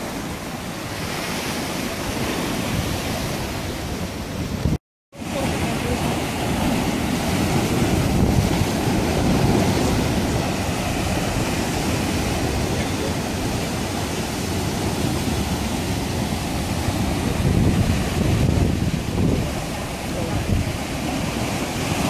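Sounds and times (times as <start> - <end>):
ocean surf breaking over rock: 0.0 - 22.0.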